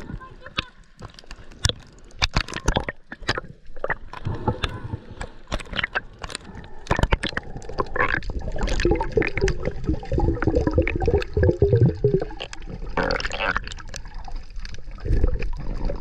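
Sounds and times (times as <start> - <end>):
water sloshing and gurgling: 0.0 - 16.0
sharp clicks and pops: 0.5 - 15.5.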